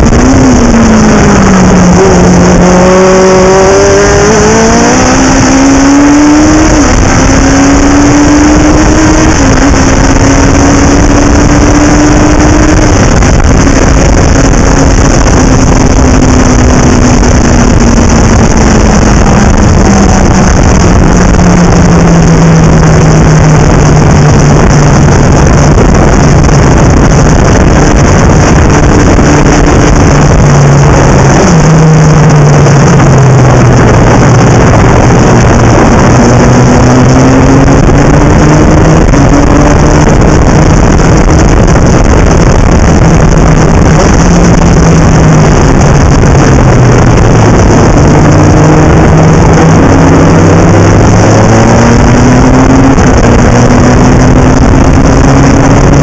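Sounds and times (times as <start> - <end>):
racing engine revving: 0.0 - 56.0
wind and road noise: 0.0 - 56.0.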